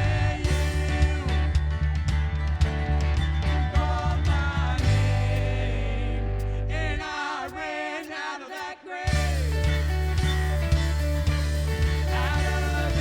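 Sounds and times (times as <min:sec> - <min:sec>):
worship song singing: 0:00.0 - 0:01.8, 0:03.7 - 0:13.0
drums: 0:00.0 - 0:06.5, 0:09.1 - 0:13.0
bass guitar: 0:00.0 - 0:07.6, 0:09.1 - 0:13.0.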